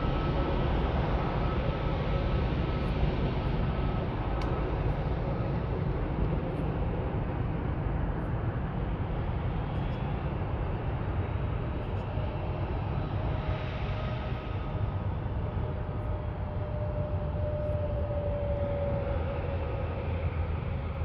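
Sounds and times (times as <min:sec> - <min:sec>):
faint whine: 0:00.0 - 0:21.0
jet engines rumbling: 0:00.0 - 0:21.0.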